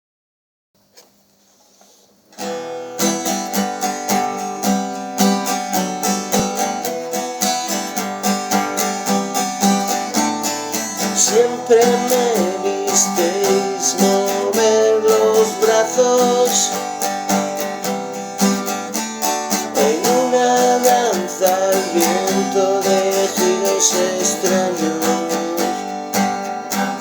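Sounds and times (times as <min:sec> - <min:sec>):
strummed acoustic guitar: 0:02.3 - 0:27.0.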